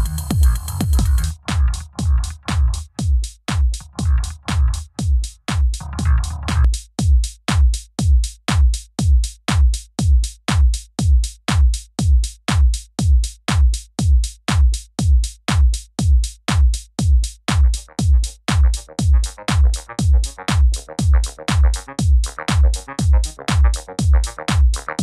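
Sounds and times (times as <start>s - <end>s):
electronic music with drum-machine beat: 0.0s - 25.0s.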